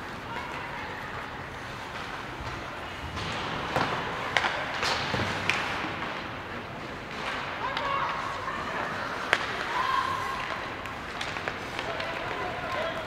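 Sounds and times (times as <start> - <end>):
hockey sticks and puck clacking: 0.4 - 13.0.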